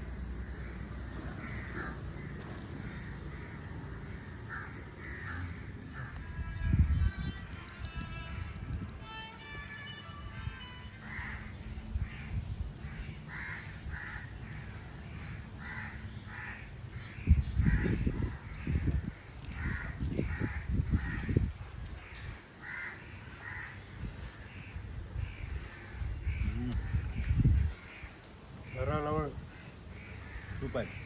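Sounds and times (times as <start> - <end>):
crows cawing: 0.4 - 6.4, 11.0 - 31.0.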